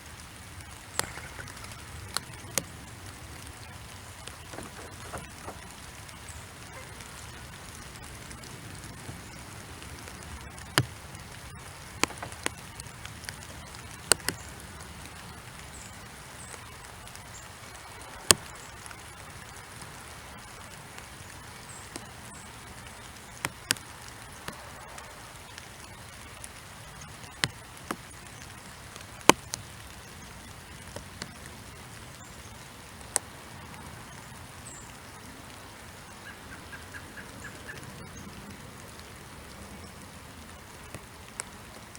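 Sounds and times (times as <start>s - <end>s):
soft rain hiss: 0.0s - 41.9s.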